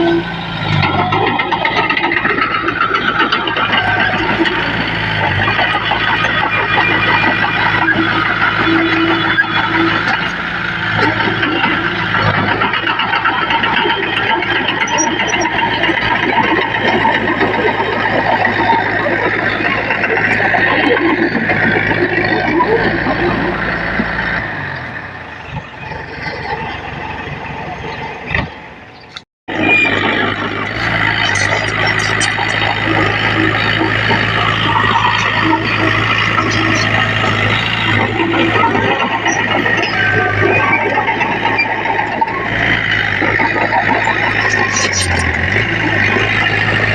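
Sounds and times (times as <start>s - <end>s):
heavy machinery diesel engine running: 0.0s - 46.9s.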